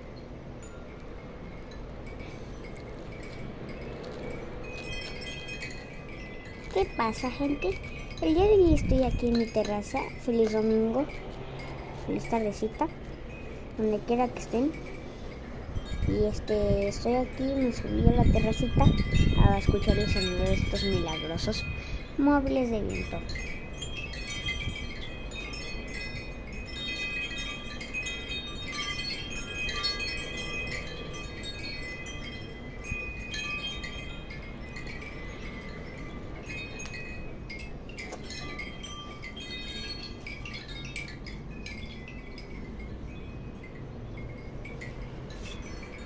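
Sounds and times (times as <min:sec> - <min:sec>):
low wind rumble: 0:00.0 - 0:46.0
wind chimes ringing: 0:00.0 - 0:46.0.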